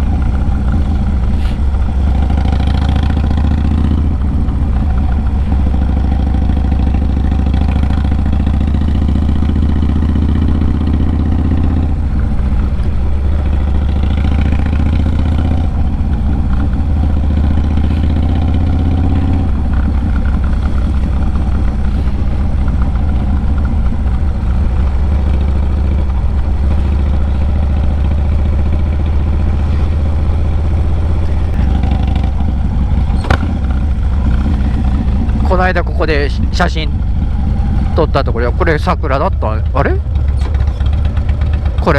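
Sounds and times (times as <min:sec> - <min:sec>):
motorcycle engine deep note: 0:00.0 - 0:41.9.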